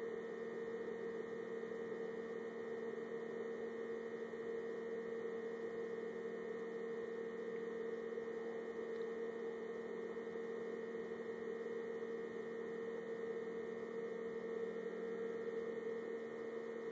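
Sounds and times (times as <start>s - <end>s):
steady electrical hum: 0.0s - 16.9s.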